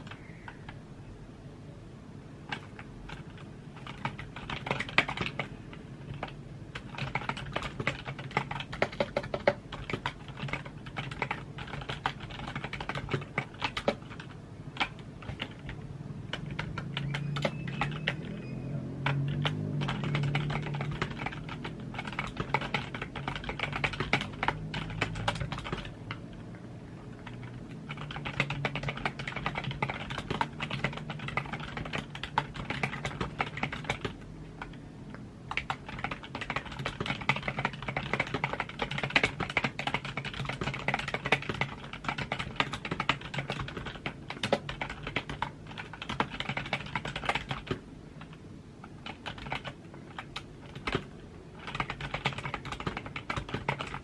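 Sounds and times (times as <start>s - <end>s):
keyboard typing: 0.0s - 0.8s, 2.4s - 34.8s, 35.5s - 54.0s.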